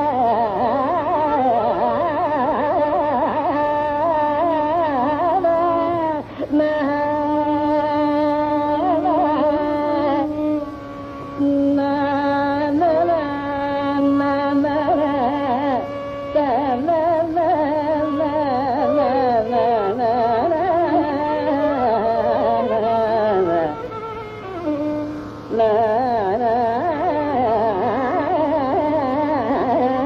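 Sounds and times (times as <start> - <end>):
low steady drone hum: 0.0 - 30.0.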